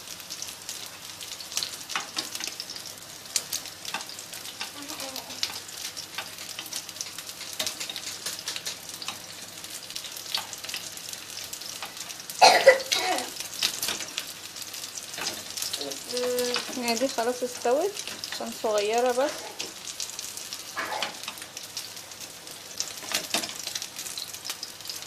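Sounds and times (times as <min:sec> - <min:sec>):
patties sizzling in oil: 0:00.0 - 0:25.0.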